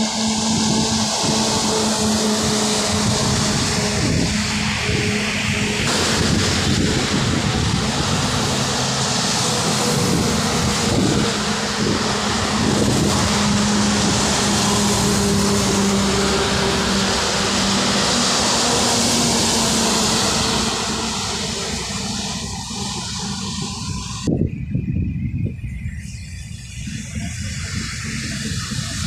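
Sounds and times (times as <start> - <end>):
tyres hissing on wet road: 0.0 - 24.3
truck engine and tyre drone: 0.0 - 29.0.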